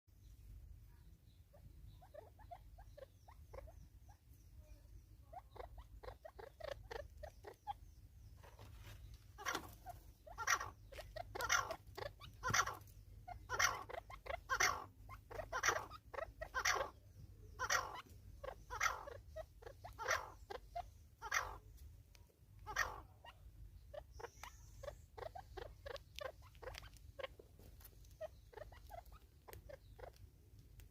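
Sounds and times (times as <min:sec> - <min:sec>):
repeated animal squeaks: 0:01.4 - 0:04.4, 0:05.2 - 0:21.8, 0:22.6 - 0:30.2.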